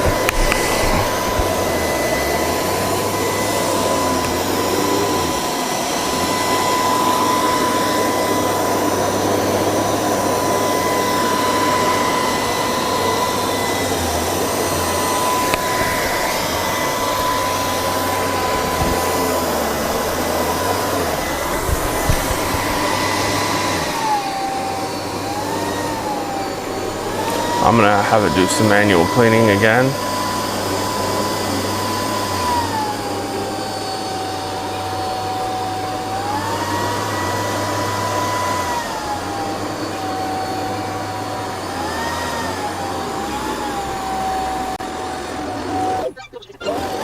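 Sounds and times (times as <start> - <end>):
robot vacuum running: 0.0 - 47.0.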